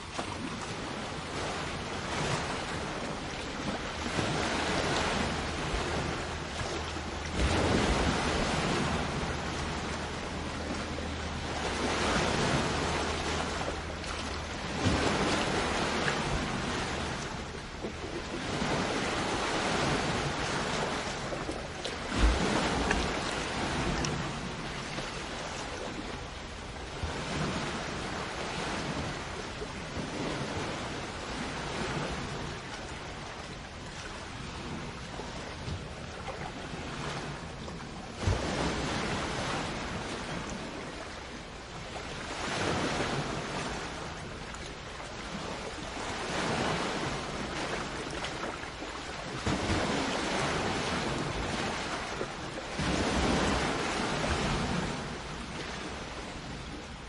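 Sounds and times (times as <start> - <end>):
sea waves washing on shore: 0.0 - 57.0
wind rumble on microphone: 0.0 - 57.0.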